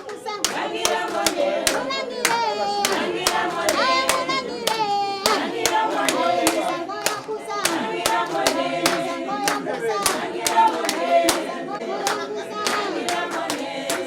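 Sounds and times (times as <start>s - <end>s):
group of voices singing: 0.0s - 14.0s
rhythmic hand clapping: 0.0s - 14.0s.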